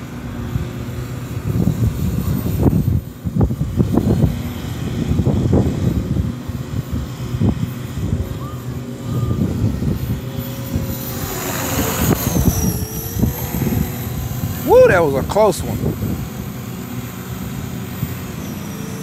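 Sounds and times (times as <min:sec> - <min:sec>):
rc helicopter rotor whining: 0:00.0 - 0:19.0
wind buffeting microphone: 0:00.0 - 0:19.0.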